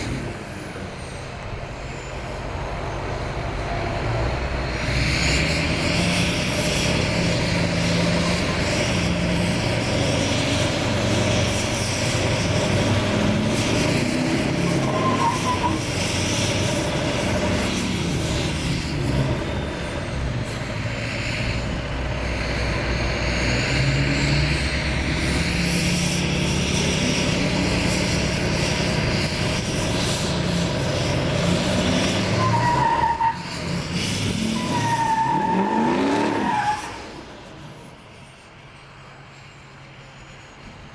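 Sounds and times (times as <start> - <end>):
truck engine running hard: 0.0 - 40.9.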